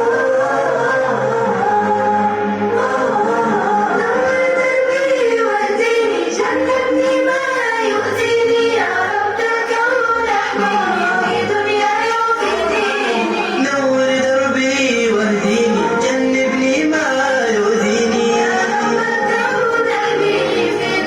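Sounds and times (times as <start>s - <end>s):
choir singing: 0.0s - 14.0s, 15.4s - 21.0s
musical accompaniment: 0.0s - 21.0s.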